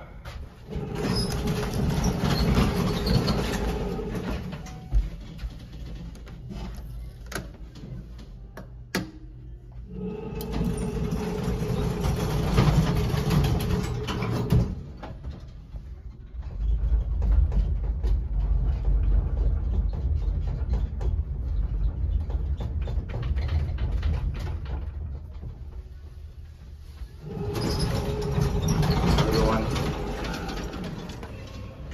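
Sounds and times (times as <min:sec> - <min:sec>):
elevator low rumble: 0:00.0 - 0:31.9
elevator rushing mechanical noise: 0:00.5 - 0:07.0, 0:09.8 - 0:31.9.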